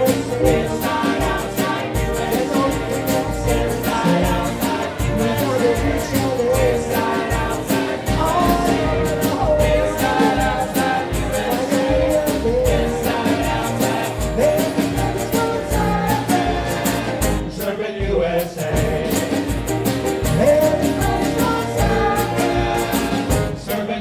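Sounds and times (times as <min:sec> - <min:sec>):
dixieland jazz band playing: 0:00.0 - 0:24.0.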